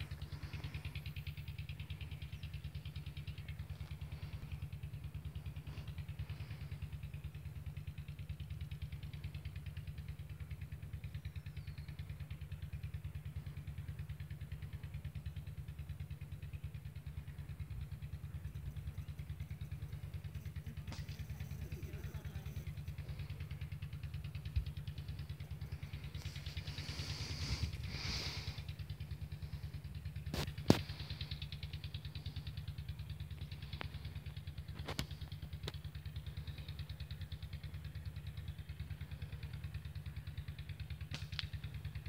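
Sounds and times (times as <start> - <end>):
stationary engine running: 0.0 - 9.8, 16.0 - 40.8.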